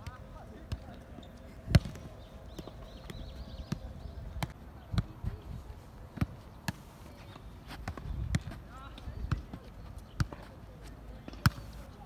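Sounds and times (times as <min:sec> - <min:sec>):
ball kicked and bouncing on grass: 0:00.0 - 0:12.0.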